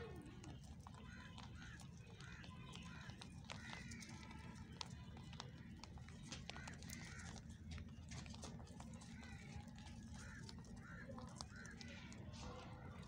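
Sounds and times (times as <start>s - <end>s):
rabbits chewing dry feed: 0.0s - 13.0s.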